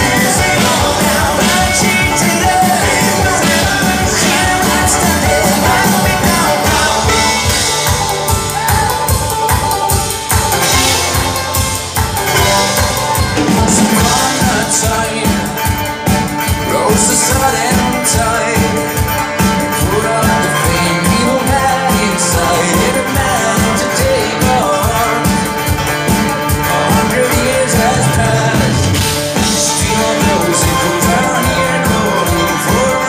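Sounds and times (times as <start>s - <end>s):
live band playing: 0.0s - 33.0s
person singing: 0.0s - 33.0s.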